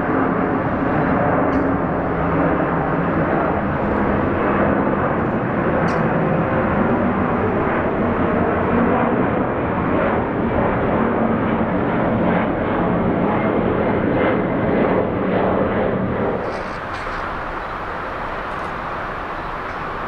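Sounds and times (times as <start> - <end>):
jet airliner engine rush: 0.0 - 20.0.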